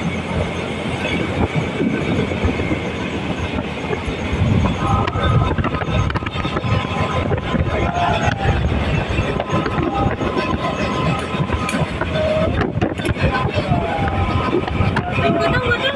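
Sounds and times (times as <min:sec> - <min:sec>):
rail car on track: 0:00.0 - 0:15.9
road and wind noise: 0:00.0 - 0:15.9.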